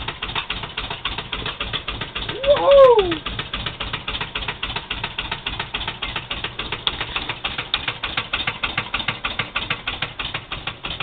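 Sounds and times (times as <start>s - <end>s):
engine rapid clatter: 0.0s - 11.0s.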